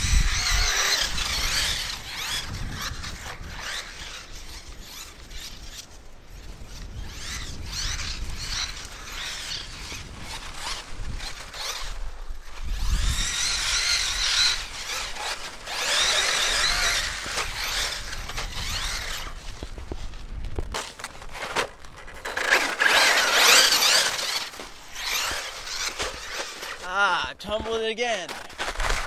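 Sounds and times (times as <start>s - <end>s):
electric motor whining: 0.0s - 20.2s, 22.2s - 26.8s.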